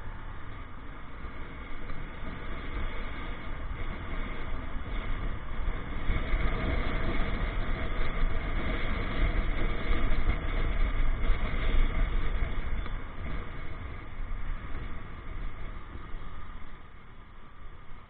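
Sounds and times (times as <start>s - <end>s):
motorcycle wind and road noise: 0.0s - 18.0s.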